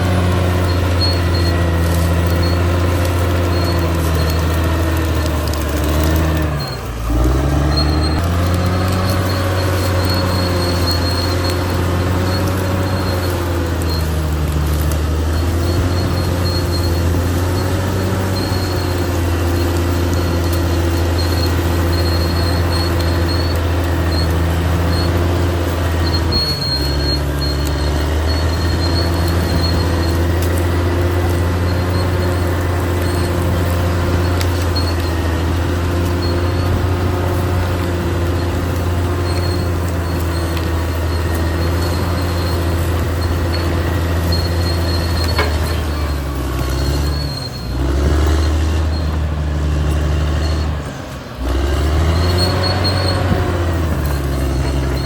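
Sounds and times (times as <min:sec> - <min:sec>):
bulldozer diesel engine running: 0:00.0 - 0:55.0
high-pitched squeal: 0:00.0 - 0:55.0.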